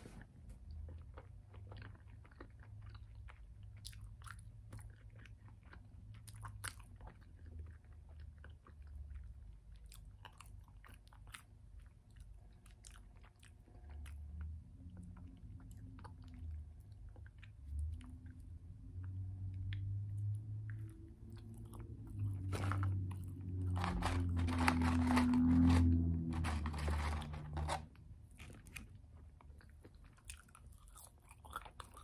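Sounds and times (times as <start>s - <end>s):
low steady hum: 0.0s - 32.0s
person chewing bread: 0.0s - 32.0s.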